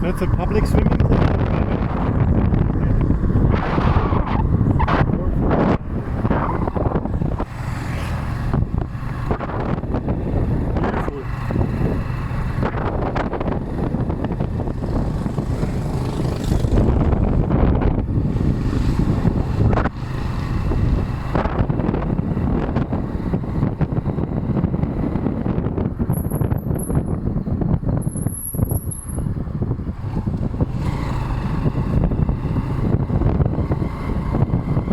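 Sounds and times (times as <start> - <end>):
motorcycle engine running: 0.0 - 34.9
wind buffeting microphone: 0.0 - 34.9.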